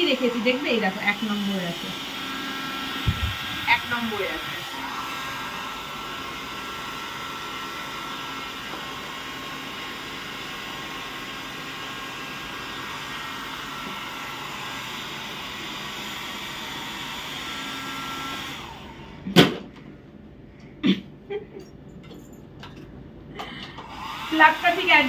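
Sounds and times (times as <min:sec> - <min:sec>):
hair dryer running: 0:00.0 - 0:19.5, 0:23.4 - 0:25.0.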